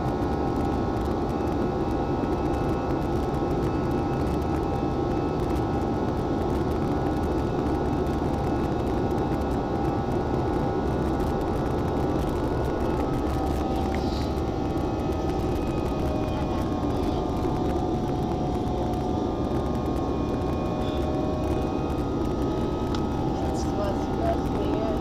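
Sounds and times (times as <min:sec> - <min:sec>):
faint whining tones: 0:00.0 - 0:25.0
jet engines and rushing air roar: 0:00.0 - 0:25.0.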